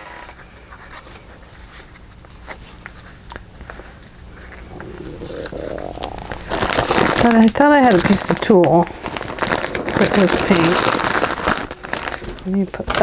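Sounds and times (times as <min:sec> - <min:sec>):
soft rustling of paper: 0:00.0 - 0:13.0.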